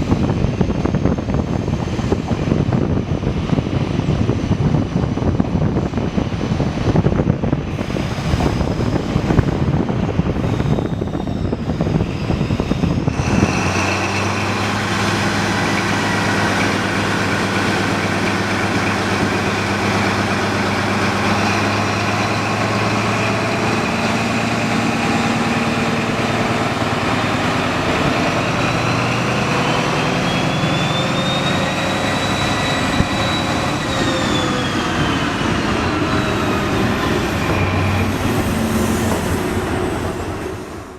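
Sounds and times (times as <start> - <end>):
diesel train engine rumbling: 0.0 - 40.9
high whine: 0.0 - 40.9.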